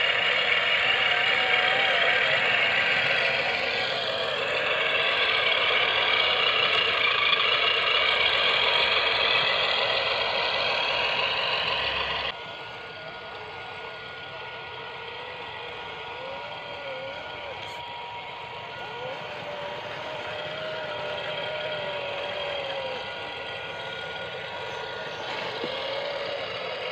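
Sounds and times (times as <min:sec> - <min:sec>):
model truck mechanical whir: 0:00.0 - 0:26.9.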